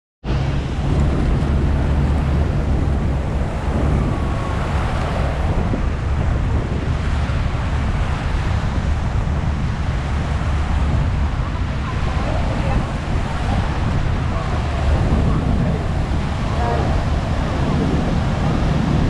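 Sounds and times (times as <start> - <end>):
boat engine running: 0.2 - 19.0
churning whitewater: 0.2 - 19.0
wind buffeting microphone: 0.2 - 19.0.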